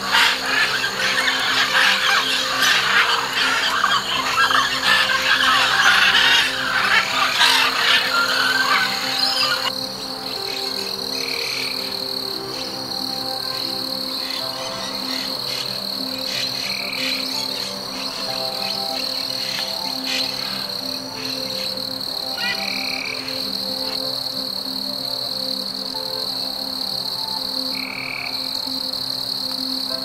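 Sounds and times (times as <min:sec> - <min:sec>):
frogs croaking: 0:00.0 - 0:30.0
high-pitched insect drone: 0:00.0 - 0:30.0.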